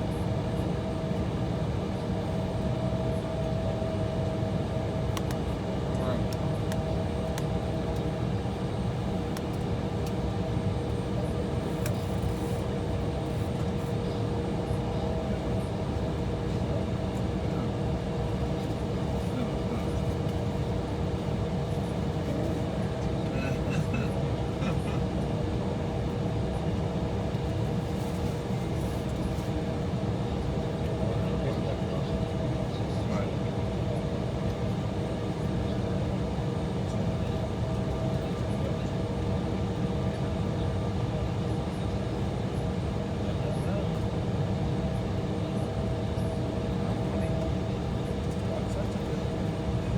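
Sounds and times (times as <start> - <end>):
aircraft engines idling: 0.3 - 49.9.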